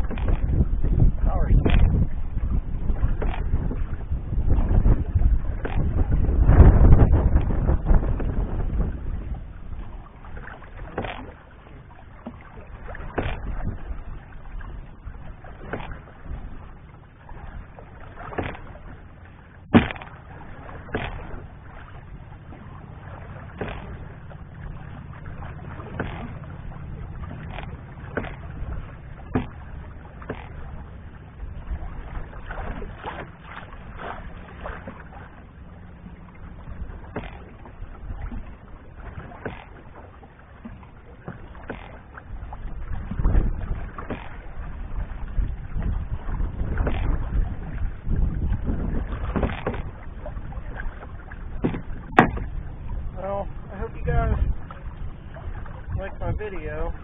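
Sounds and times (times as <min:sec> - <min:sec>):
low wind rumble: 0:00.0 - 0:57.0
waves slapping against canoe hull: 0:00.0 - 0:57.0.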